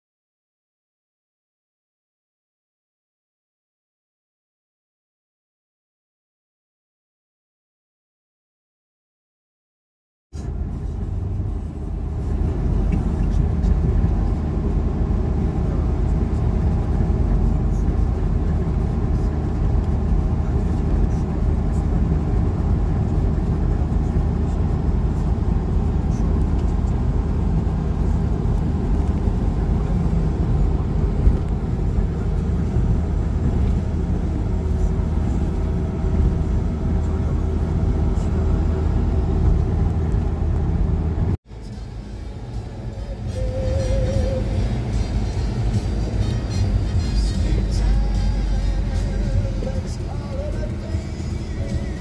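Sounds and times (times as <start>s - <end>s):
road and engine rumble: 10.3s - 52.0s.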